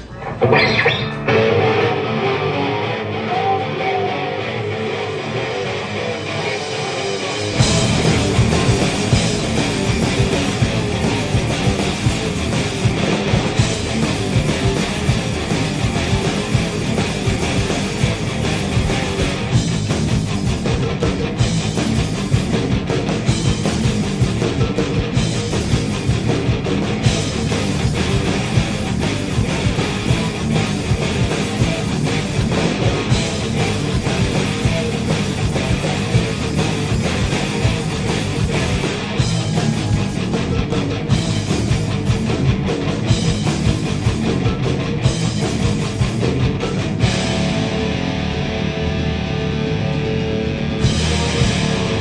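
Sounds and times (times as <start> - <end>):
bass guitar: 0.0 - 52.0
distorted electric guitars: 0.0 - 52.0
drum kit: 0.0 - 52.0.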